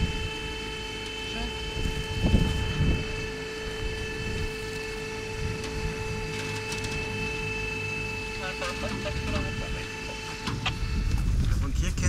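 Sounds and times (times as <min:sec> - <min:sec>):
pump whining hum: 0:00.0 - 0:12.0.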